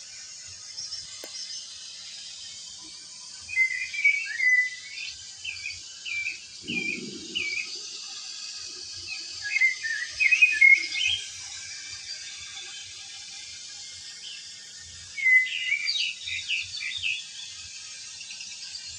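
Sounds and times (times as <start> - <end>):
steady hiss: 0.0 - 18.9
small bird chirping: 0.2 - 12.9, 14.1 - 18.9.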